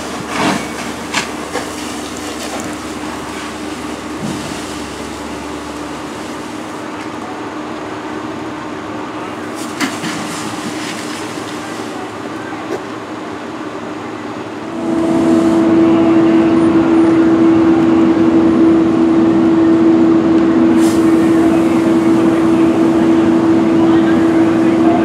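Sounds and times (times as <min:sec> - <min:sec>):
loud engine drone: 0:00.0 - 0:25.0.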